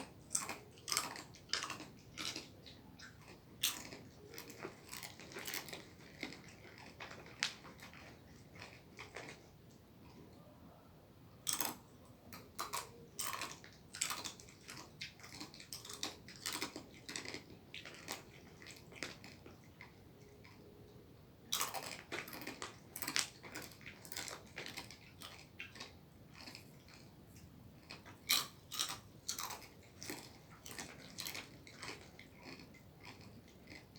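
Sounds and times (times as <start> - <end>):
biting and chewing: 0.0 - 10.3, 11.4 - 33.9.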